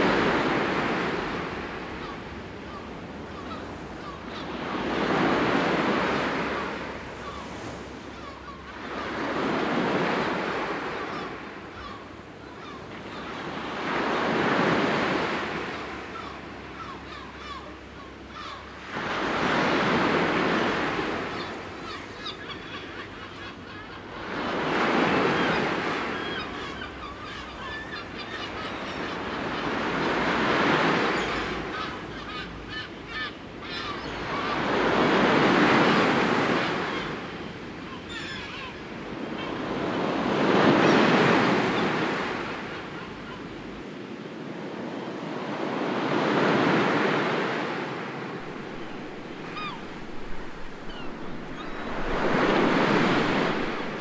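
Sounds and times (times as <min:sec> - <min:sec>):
sea waves breaking on shore: 0:00.0 - 0:23.2, 0:24.0 - 0:54.0.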